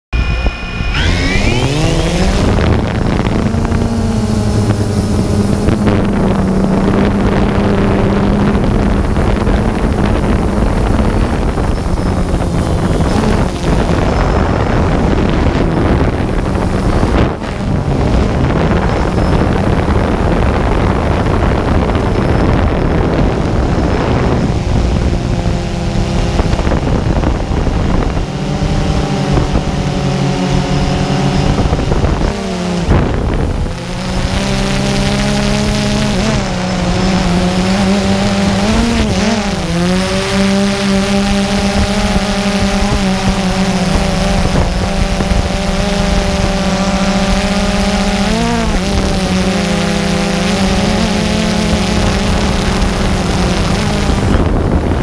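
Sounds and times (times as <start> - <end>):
drone motors whining: 0.1 - 55.0
wind noise on microphone: 0.1 - 55.0.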